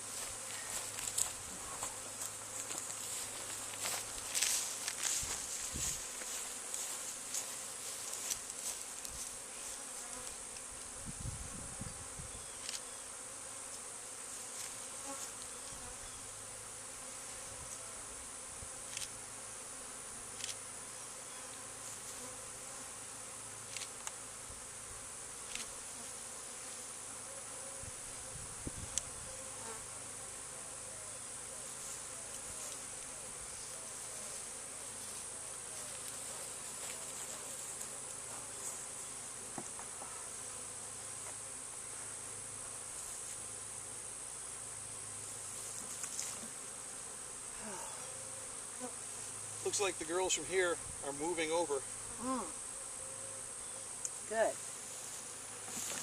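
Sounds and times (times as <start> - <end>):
bee swarm buzzing: 0.0 - 56.0.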